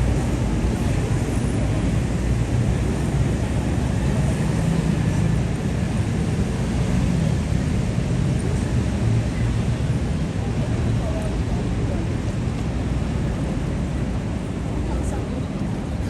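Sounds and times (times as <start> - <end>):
even wash of noise: 0.0 - 16.0
low rumble of traffic: 0.0 - 16.0.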